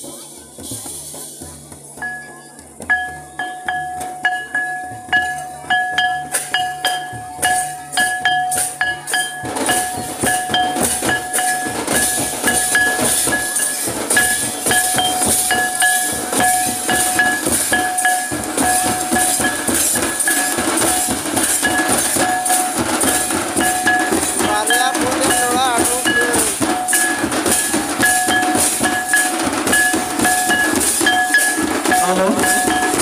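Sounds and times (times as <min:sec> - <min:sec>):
hand drums beating: 0:00.0 - 0:33.0
ringing metallic clink: 0:02.9 - 0:33.0.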